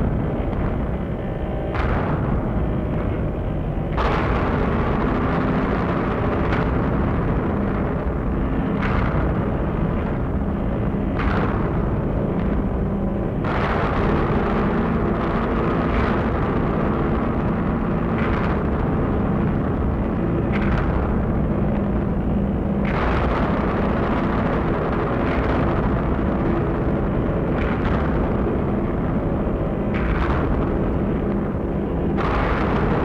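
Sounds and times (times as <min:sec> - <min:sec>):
low drone tones: 0:00.0 - 0:33.0
rumbling wall of noise: 0:00.0 - 0:33.0.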